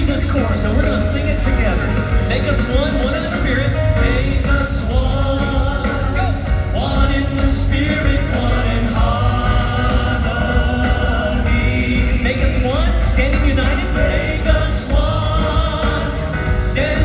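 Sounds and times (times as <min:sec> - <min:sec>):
choir singing gospel with band: 0:00.0 - 0:17.0
steady bass: 0:00.0 - 0:17.0.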